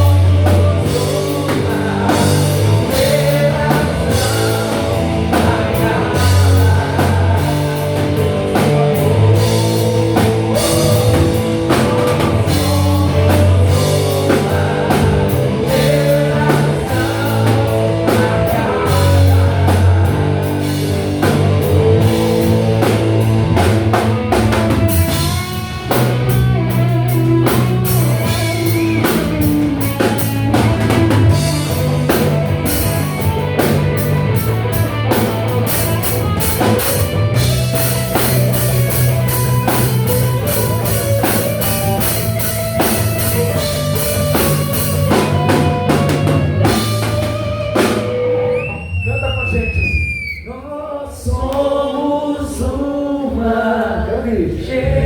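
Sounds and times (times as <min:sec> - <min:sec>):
live band playing: 0:00.0 - 0:50.2
voices singing: 0:00.0 - 0:55.0.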